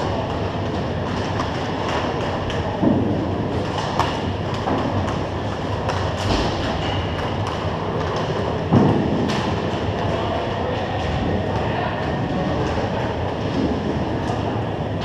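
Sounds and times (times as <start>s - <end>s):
hockey sticks and puck clacking: 0.0s - 14.5s.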